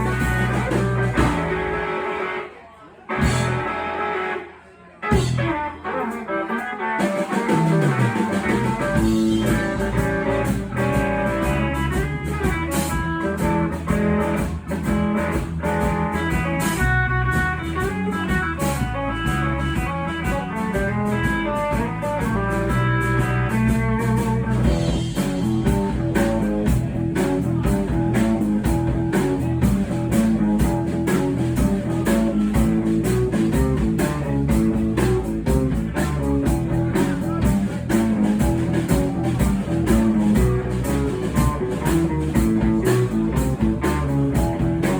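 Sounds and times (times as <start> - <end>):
drum kit: 0.0 - 2.4, 3.1 - 44.9
electric guitar leading: 0.0 - 2.5, 5.1 - 44.9
bass: 0.0 - 44.9.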